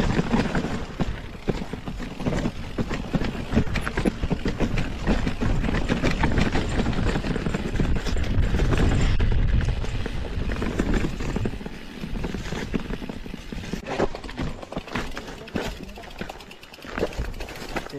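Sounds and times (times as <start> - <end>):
mountain bike rattling: 0.0 - 17.9.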